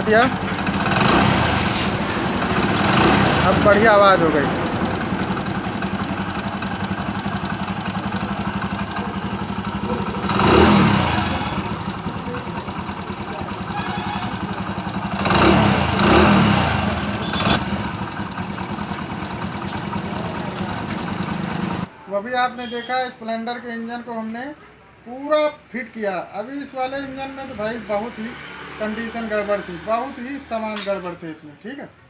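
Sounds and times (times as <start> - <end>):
motorcycle engine idling and revving: 0.0 - 21.9, 27.0 - 31.1.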